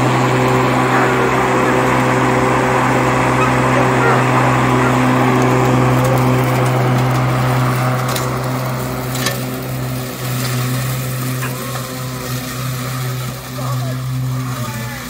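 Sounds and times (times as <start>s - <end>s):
electric mower humming: 0.0s - 15.0s.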